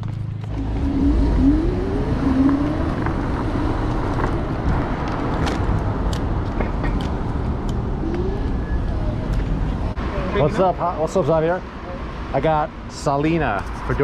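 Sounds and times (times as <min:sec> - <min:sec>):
wind and road rumble: 0:00.0 - 0:14.0.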